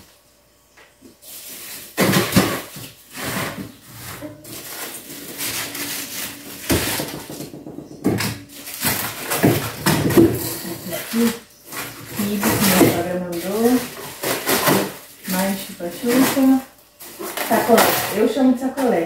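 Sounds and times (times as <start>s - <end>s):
plastic bags rustling: 1.1s - 19.0s
frozen items knocking together: 1.4s - 19.0s.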